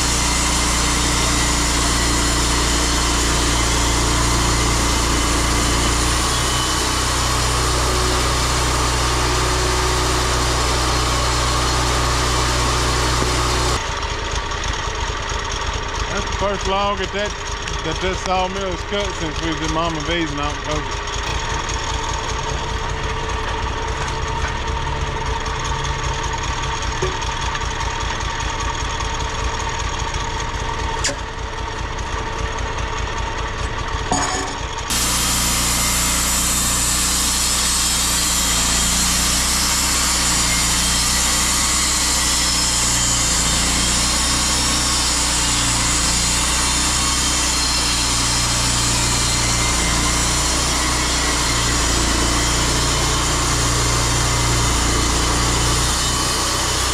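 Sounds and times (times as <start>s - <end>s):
saw blade cutting log: 0.0s - 14.0s, 16.1s - 25.5s, 34.1s - 56.9s
sawmill engine running: 0.0s - 56.9s.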